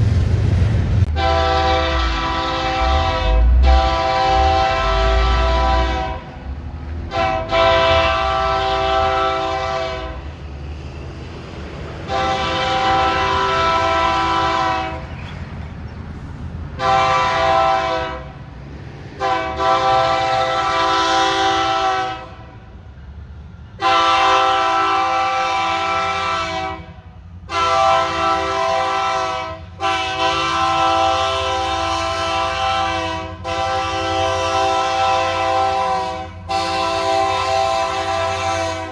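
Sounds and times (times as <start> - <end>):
train rumble: 0.0 - 38.9
locomotive air horn blasts: 1.1 - 6.4, 7.1 - 10.3, 12.1 - 15.1, 16.8 - 18.4, 19.2 - 22.7, 23.8 - 38.9.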